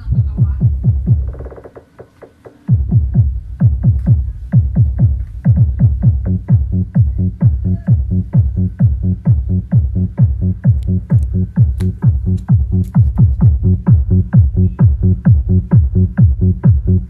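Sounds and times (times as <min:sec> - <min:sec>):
sustained bass line: 0:00.0 - 0:01.5, 0:02.7 - 0:17.0
kick drum thumps: 0:00.0 - 0:01.8, 0:02.7 - 0:17.0
electronic dance music from subwoofer: 0:00.0 - 0:17.0.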